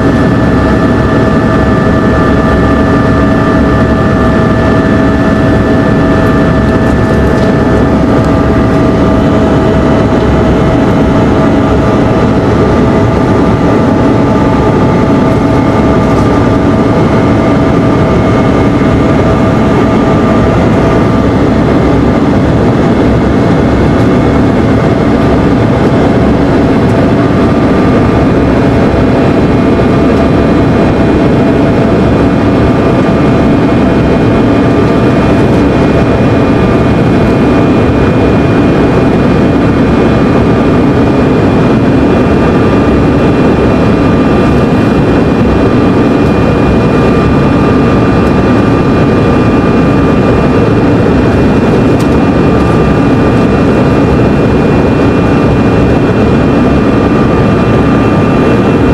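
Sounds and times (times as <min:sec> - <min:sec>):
airplane cabin airflow rush: 0:00.0 - 0:58.9
jet engines: 0:00.0 - 0:58.9.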